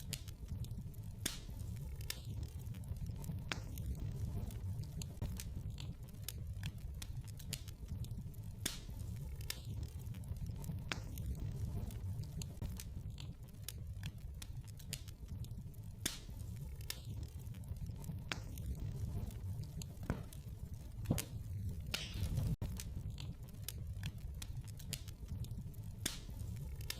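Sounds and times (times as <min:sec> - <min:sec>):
sharp pops and snaps: 0:00.0 - 0:26.9
wood fire crackling: 0:00.0 - 0:26.9.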